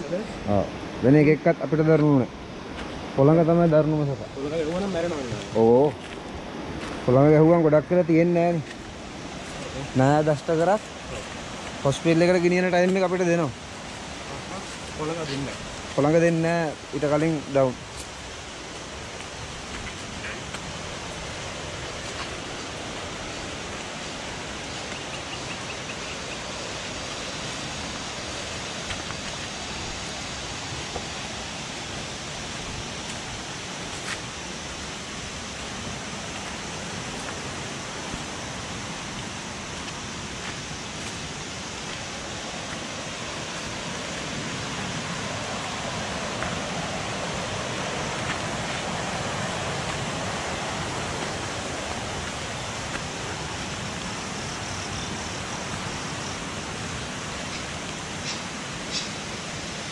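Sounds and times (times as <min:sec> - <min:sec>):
stream rushing: 0:00.0 - 0:59.9.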